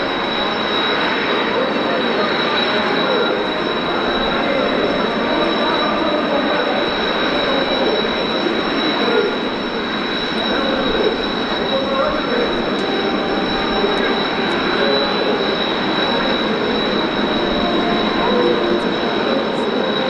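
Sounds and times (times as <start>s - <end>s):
jet engine rush and whine: 0.0s - 20.0s.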